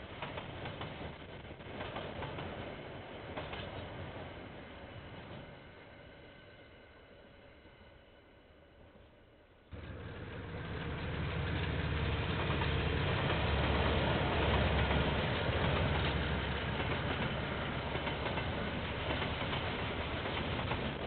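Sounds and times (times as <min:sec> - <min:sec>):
diesel locomotive engines rumbling: 0:00.0 - 0:21.0.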